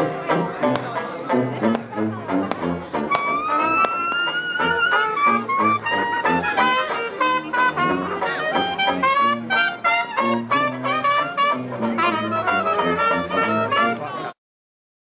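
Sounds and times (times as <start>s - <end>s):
bass line: 0.0s - 14.0s
strummed banjo chords: 0.0s - 14.4s
trumpet: 1.3s - 14.3s
clarinet: 1.3s - 14.4s.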